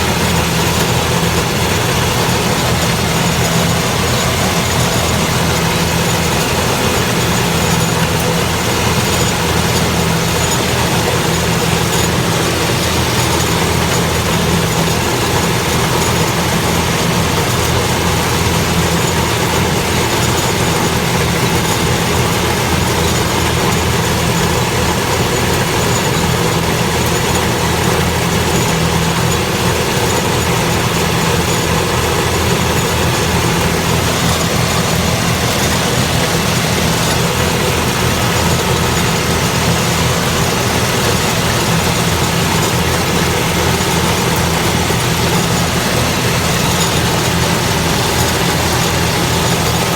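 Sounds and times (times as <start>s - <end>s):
harvester machinery droning: 0.0s - 49.9s.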